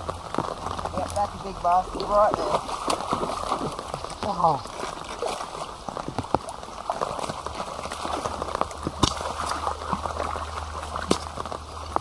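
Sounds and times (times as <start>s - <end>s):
heavy rain falling: 0.0s - 12.0s
water sloshing and splashing: 0.0s - 12.0s.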